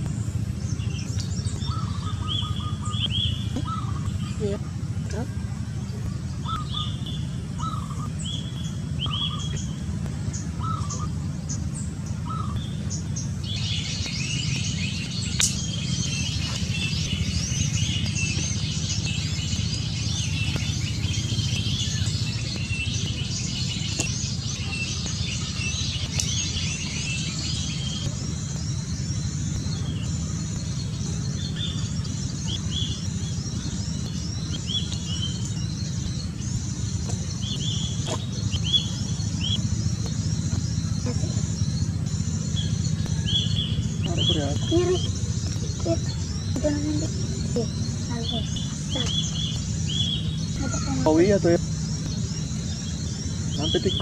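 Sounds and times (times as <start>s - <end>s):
small birds chirping: 0.0s - 54.0s
steady low rumble: 0.0s - 54.0s.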